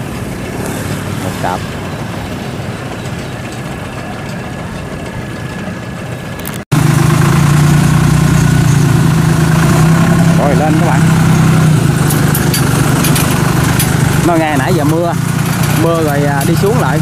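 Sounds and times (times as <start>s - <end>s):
harvester engine idling: 0.0s - 17.0s
steady engine hum: 0.0s - 17.0s.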